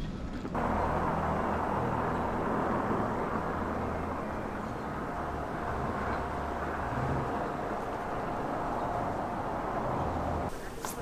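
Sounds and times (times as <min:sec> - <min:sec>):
rush of wind: 0:00.2 - 0:11.0
low vehicle hum: 0:00.5 - 0:11.0.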